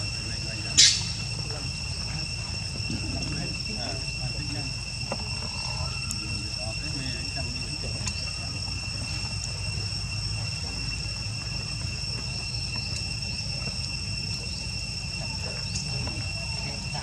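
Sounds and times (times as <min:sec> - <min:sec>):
insect drone: 0:00.0 - 0:17.0
low background rumble: 0:00.0 - 0:17.0.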